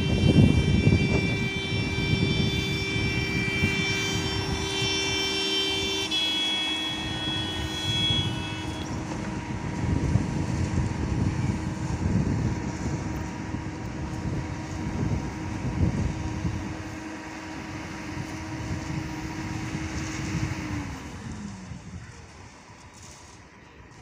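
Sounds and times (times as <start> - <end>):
steady hum: 0.0 - 20.4
distant jet engines rumbling: 0.0 - 24.0.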